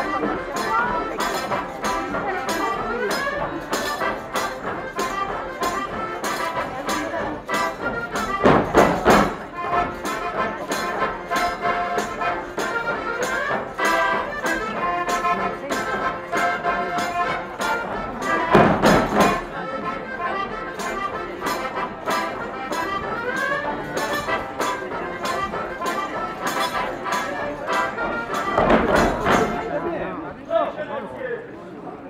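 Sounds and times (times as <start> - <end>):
lively folk dance music: 0.0 - 30.8.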